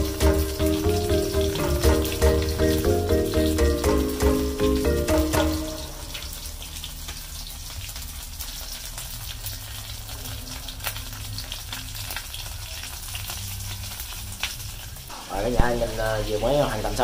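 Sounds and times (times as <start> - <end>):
food sizzling in hot oil: 0.0 - 17.0
oil crackling and popping: 0.0 - 17.0.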